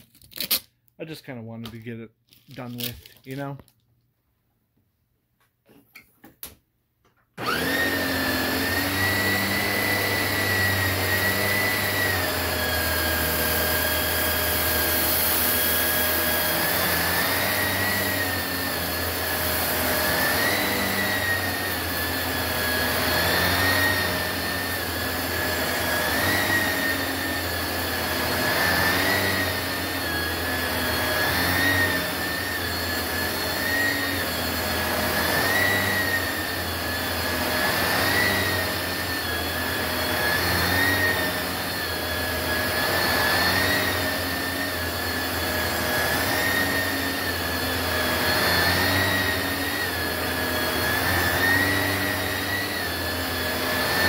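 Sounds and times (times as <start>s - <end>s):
upright vacuum cleaner on carpet: 7.4s - 54.0s.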